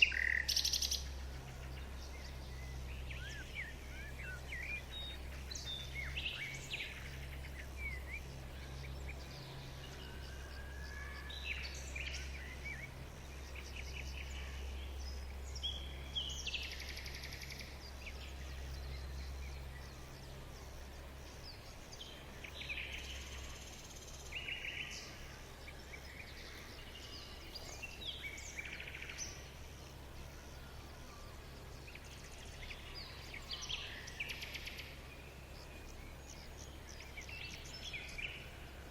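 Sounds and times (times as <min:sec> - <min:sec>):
small birds chirping and trilling: 0:00.0 - 0:38.9
steady low hum: 0:00.0 - 0:38.9.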